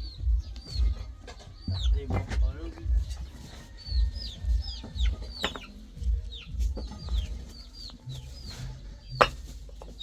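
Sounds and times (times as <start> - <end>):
chickens chirping: 0.0 - 10.0
dull low thumps: 0.0 - 10.0.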